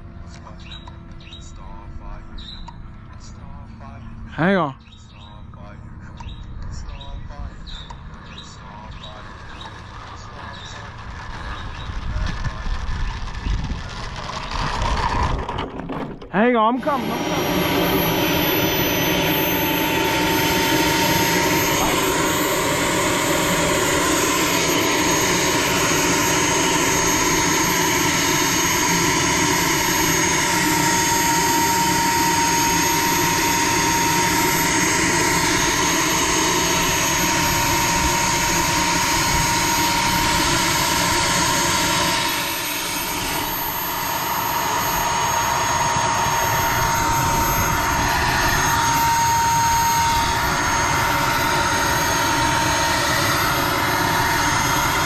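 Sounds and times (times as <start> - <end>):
model jet turbine running: 0.0 - 4.6, 6.6 - 55.0.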